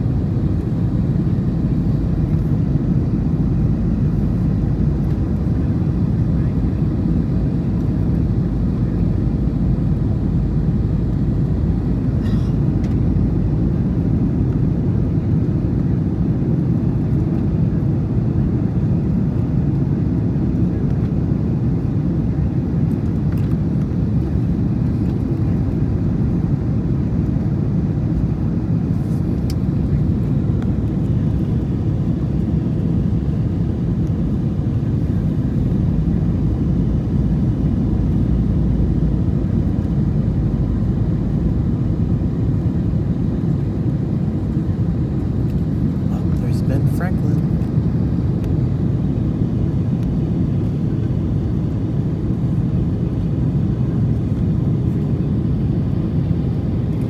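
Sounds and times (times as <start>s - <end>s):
airliner cabin engine and airflow noise: 0.0s - 57.0s.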